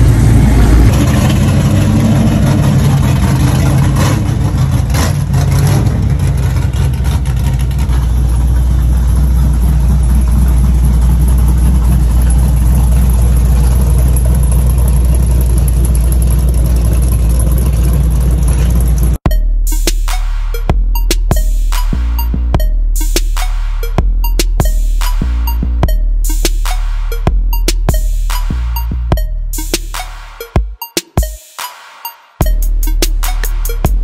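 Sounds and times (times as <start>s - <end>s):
vehicle engine idling: 0.0s - 30.6s.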